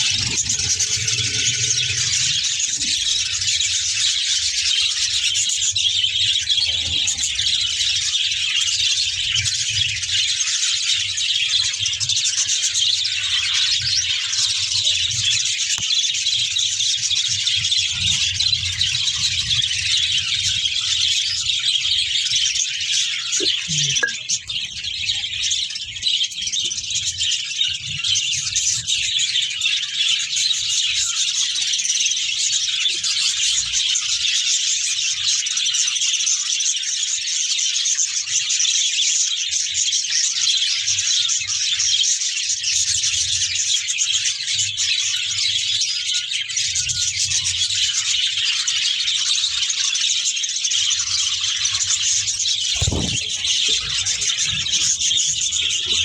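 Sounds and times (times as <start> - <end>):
budgerigars chattering: 0.0 - 35.8, 38.9 - 56.0.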